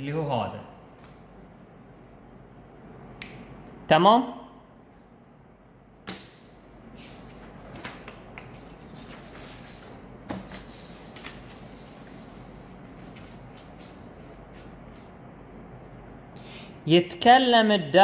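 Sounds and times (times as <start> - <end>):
faint room noise: 0.0 - 18.0.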